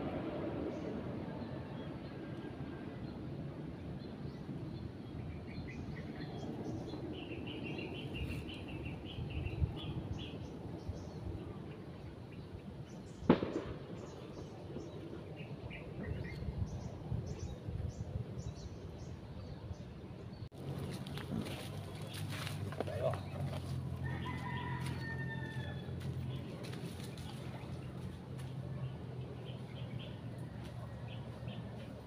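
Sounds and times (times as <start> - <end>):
low outdoor background: 0.0 - 32.0
birds chirping: 4.0 - 32.0.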